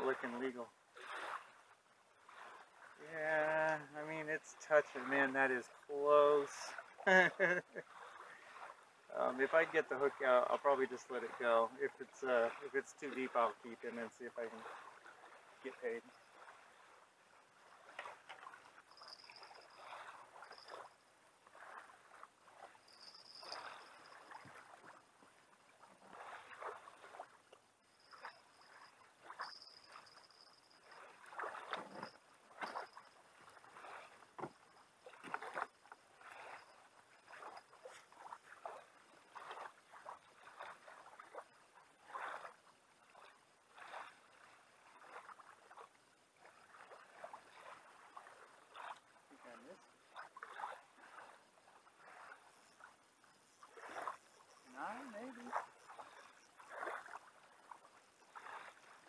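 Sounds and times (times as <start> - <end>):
small waves lapping against kayak: 0.0 - 59.0.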